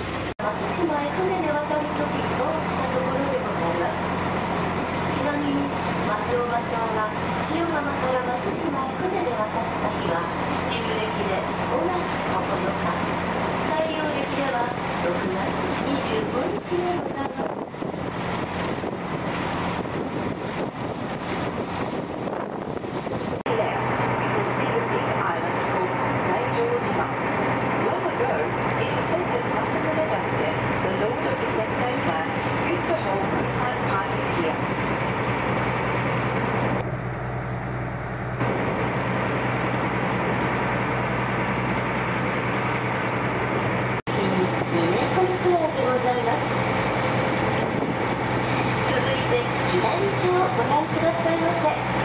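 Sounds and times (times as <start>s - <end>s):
boat engine drone: 0.0s - 52.0s
low engine hum: 0.0s - 52.0s
water rushing along hull: 0.0s - 52.0s
wind buffeting microphone: 1.1s - 24.2s, 25.6s - 52.0s.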